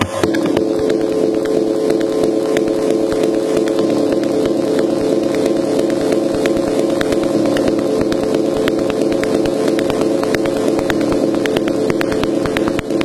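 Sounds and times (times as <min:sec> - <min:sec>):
sharp clicks: 0:00.0 - 0:13.0
synthesizer drone: 0:00.0 - 0:13.0.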